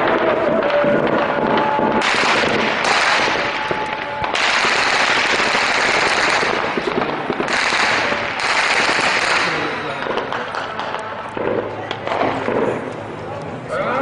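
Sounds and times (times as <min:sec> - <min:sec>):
machine-gun fire bursts: 0:00.0 - 0:12.8.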